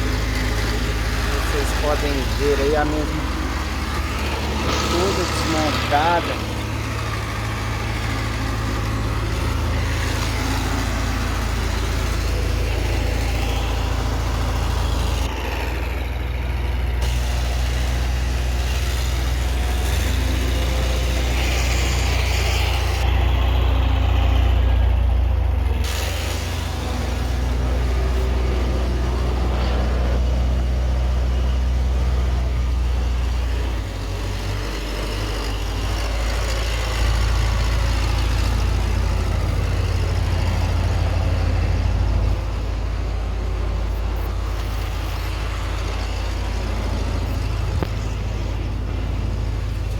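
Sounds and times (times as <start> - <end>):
heavy engine idling: 0.0 - 49.9.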